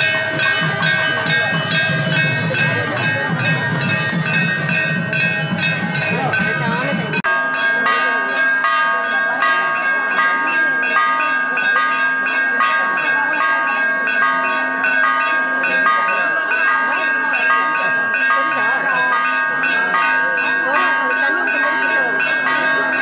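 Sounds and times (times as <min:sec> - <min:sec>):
bells ringing rapidly: 0:00.0 - 0:23.0
crowd voices: 0:00.0 - 0:23.0.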